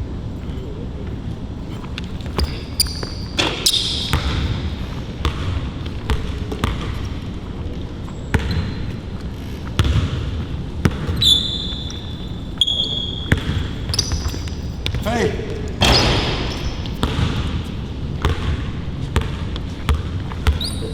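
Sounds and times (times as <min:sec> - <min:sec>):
sneaker squeaks: 0:01.6 - 0:07.2, 0:07.9 - 0:20.9
basketball bouncing on court: 0:02.0 - 0:07.4, 0:08.2 - 0:20.9.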